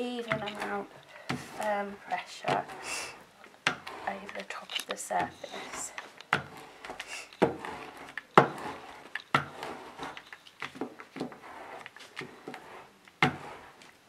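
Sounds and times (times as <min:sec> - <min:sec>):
rubber roller rolling over paper: 0:00.0 - 0:14.0.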